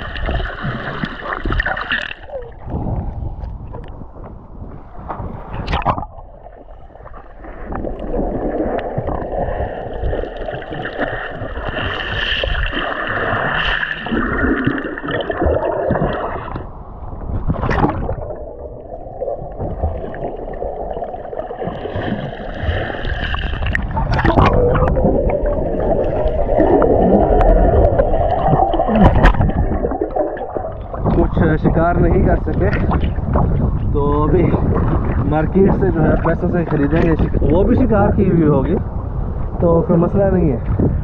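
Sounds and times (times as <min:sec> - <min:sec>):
water sloshing and gurgling: 0:00.0 - 0:41.0.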